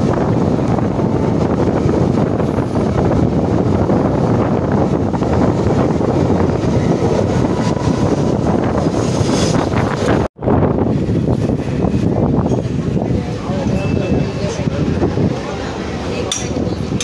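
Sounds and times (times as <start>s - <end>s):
train wheels rumbling on rails: 0.0s - 17.0s
wind buffeting microphone: 0.0s - 17.0s.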